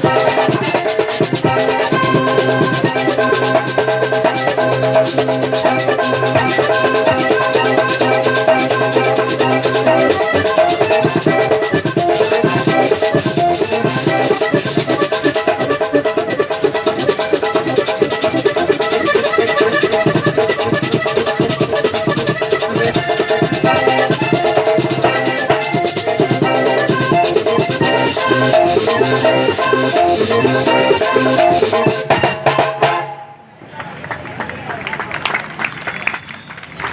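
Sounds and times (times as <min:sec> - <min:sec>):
button accordion playing: 0:00.0 - 0:33.3
percussion rhythm: 0:00.0 - 0:33.4.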